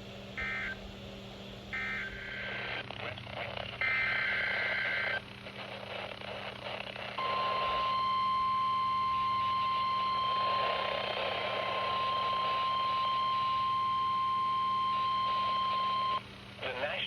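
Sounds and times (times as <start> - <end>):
radio static: 1.8 - 17.0.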